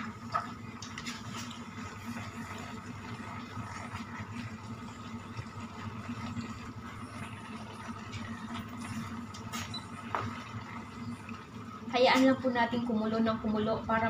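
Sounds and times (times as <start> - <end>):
kitchen fan humming: 0.0 - 14.0.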